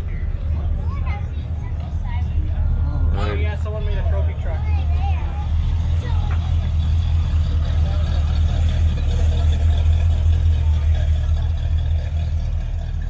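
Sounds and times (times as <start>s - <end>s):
faint voices: 0.0s - 13.0s
vehicle engine rumbling: 0.0s - 13.0s.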